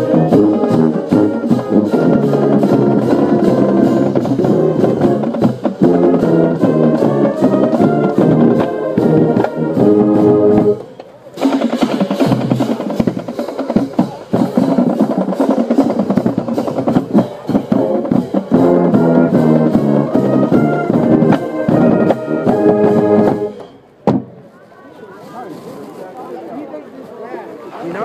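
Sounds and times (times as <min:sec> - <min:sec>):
marching band playing: 0:00.0 - 0:26.0
drums: 0:00.0 - 0:26.2.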